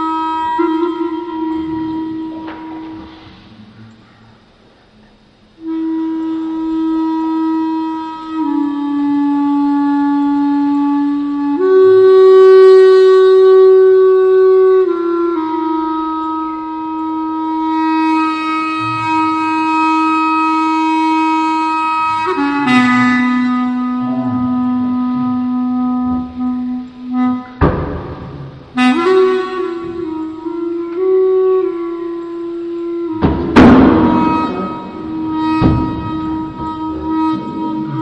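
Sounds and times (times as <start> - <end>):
wind instrument long notes: 0.0 - 38.0.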